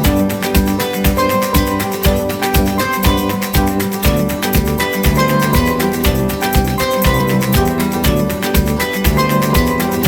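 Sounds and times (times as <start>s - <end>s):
bass line: 0.0s - 10.0s
flamenco-style plucked guitar: 0.0s - 10.0s
steady beat: 0.0s - 10.0s.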